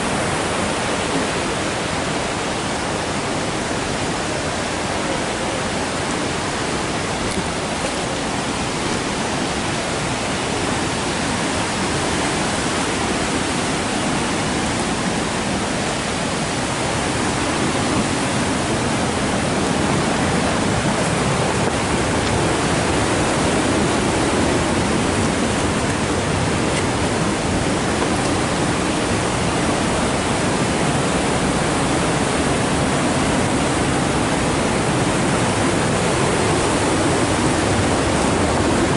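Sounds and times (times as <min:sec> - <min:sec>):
fast-flowing river rushing: 0:00.0 - 0:38.9.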